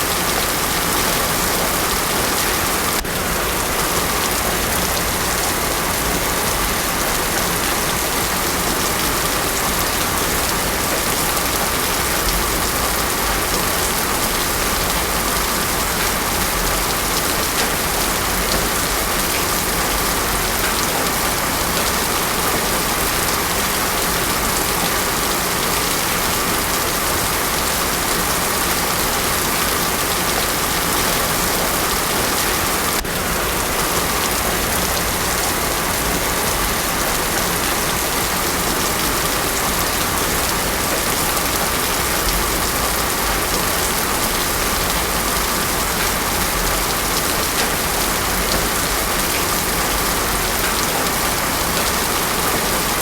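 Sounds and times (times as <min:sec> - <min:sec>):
heavy rain on a road: 0:00.0 - 0:53.0.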